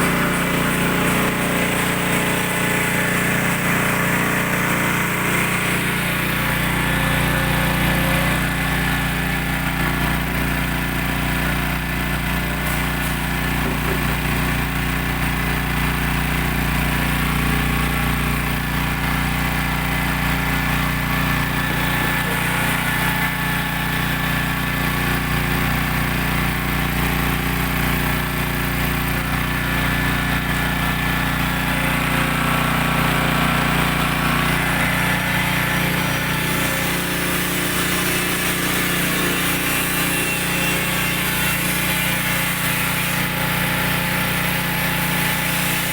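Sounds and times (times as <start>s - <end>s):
press machine motor droning: 0.0s - 25.8s, 29.2s - 45.9s.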